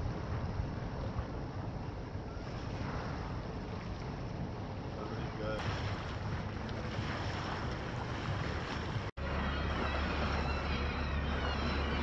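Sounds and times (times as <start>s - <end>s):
boat engine drone: 0.0s - 12.0s
sea noise: 0.0s - 12.0s
wind on microphone: 0.0s - 12.0s.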